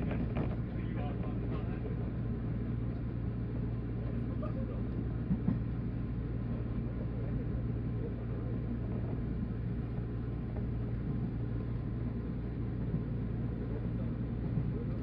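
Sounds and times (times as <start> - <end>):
train low hum: 0.0 - 15.0
wheels rumbling on rail: 0.0 - 15.0.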